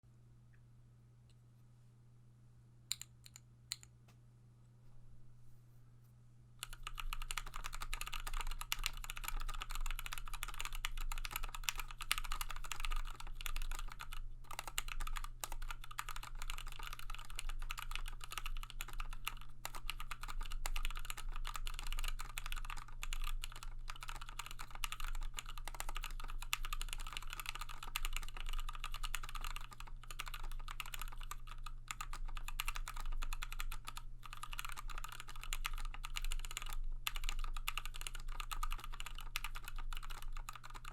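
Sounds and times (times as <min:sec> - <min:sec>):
mechanical keyboard typing: 0:06.6 - 0:40.9.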